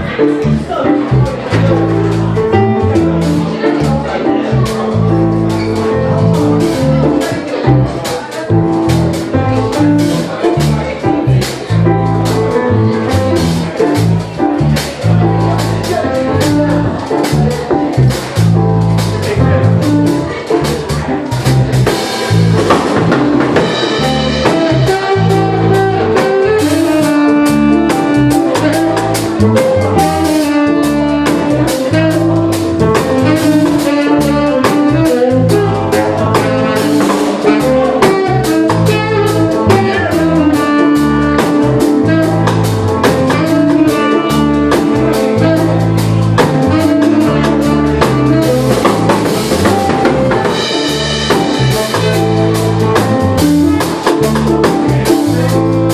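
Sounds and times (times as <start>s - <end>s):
bass line: 0.0s - 55.9s
drum kit beat: 0.0s - 55.9s
melodic lead notes: 0.0s - 55.9s.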